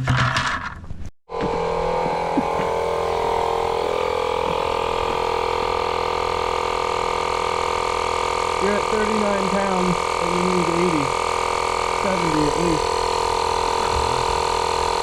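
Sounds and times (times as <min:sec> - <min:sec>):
air compressor inflating a tire: 0:01.3 - 0:15.0.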